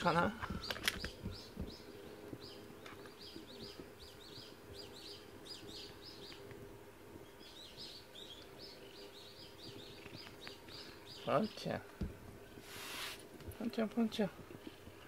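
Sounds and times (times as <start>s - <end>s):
faint steady hum: 0.0s - 15.0s
small birds chirping: 0.0s - 15.0s.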